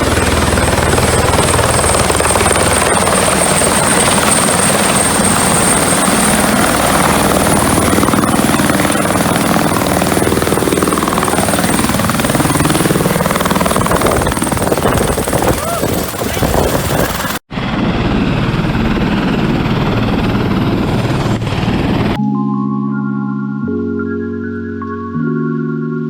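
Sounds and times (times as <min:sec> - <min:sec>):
helicopter rotor and engine noise: 0:00.0 - 0:22.2.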